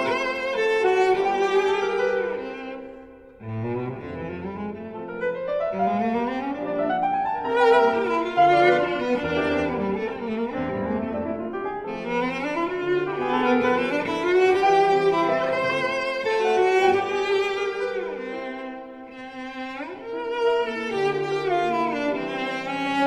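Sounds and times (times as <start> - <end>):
orchestral string music: 0.0 - 23.0.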